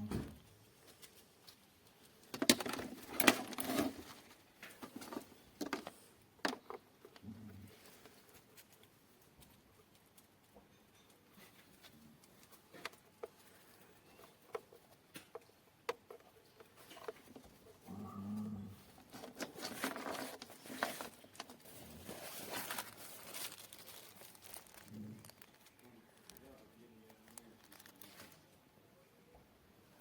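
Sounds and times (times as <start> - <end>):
crinkling and rustling: 0.1 - 28.6.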